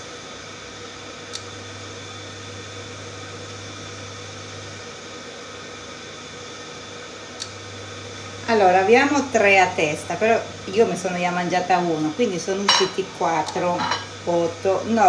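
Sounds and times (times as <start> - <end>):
kitchen fan humming: 0.0 - 15.0.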